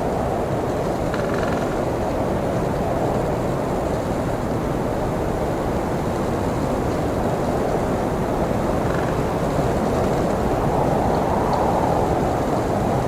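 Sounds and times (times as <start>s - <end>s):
blizzard wind blowing: 1.9s - 13.0s.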